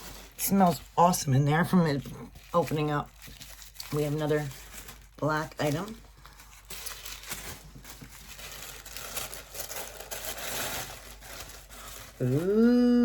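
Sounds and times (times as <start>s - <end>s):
wrapping crinkling and tearing: 0.0s - 13.0s.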